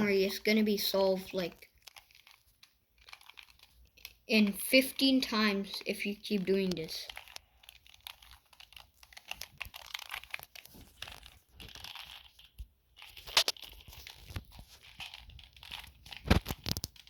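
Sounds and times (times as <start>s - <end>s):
puzzle cube clicking and rasping: 0.0s - 17.0s.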